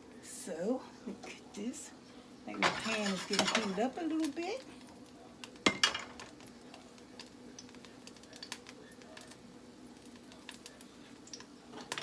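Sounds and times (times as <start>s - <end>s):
hot oil crackling in a pan: 0.0s - 12.0s.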